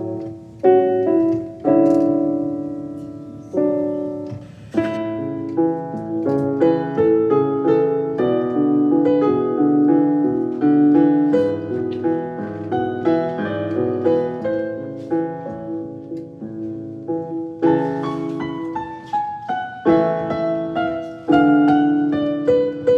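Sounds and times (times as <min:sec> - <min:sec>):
solo piano music: 0:00.0 - 0:22.9.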